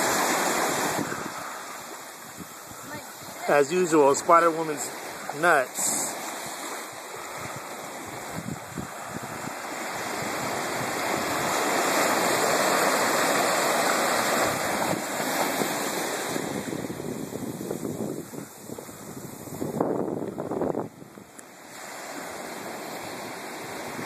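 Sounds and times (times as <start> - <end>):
ocean surf washing over sand: 0.0 - 24.0.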